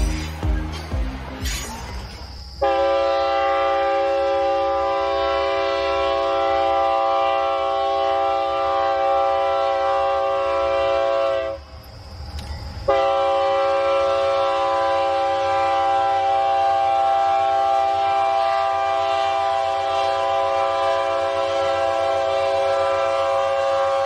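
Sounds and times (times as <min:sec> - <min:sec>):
train air horn blast: 0:02.6 - 0:11.6, 0:12.9 - 0:24.0.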